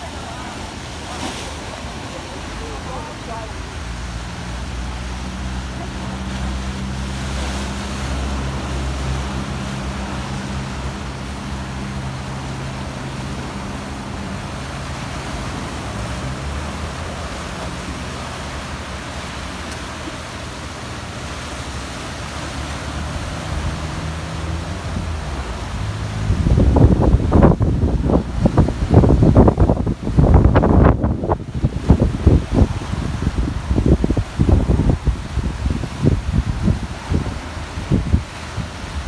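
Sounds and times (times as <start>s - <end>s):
surf breaking on rocks: 0.0s - 39.0s.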